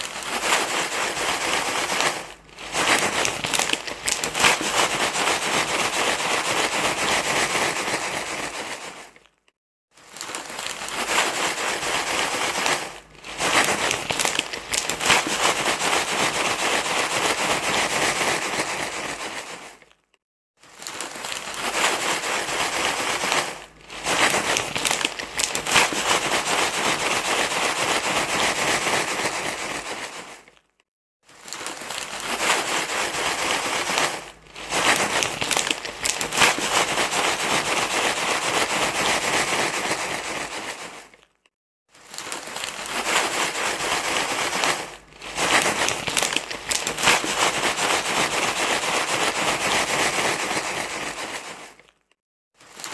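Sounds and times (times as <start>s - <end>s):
dense crackly crinkling rustle: 0.0s - 52.9s.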